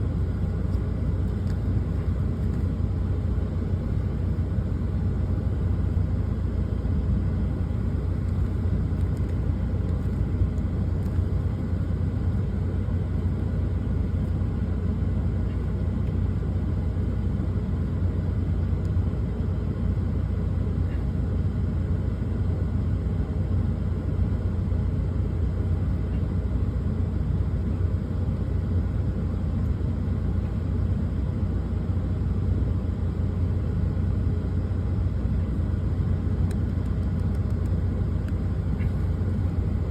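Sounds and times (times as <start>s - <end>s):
truck engine rumble in cab: 0.0s - 39.9s.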